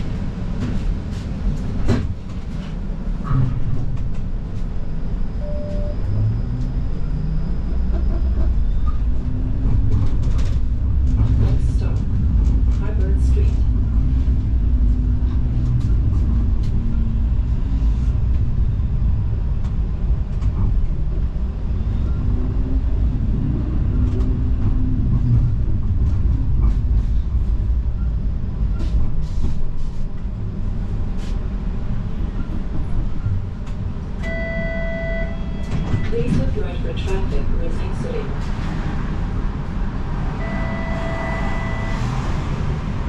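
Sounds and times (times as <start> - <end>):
streetcar rumbling on rails: 0.0 - 43.0.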